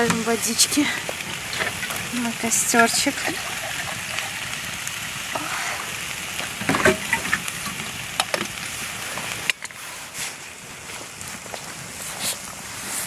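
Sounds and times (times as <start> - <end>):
campfire crackling and hissing: 0.0 - 13.0.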